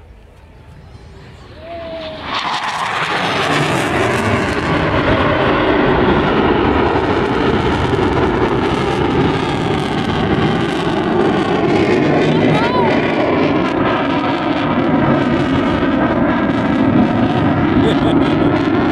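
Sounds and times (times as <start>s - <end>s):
jet engines roaring: 0.0s - 18.9s.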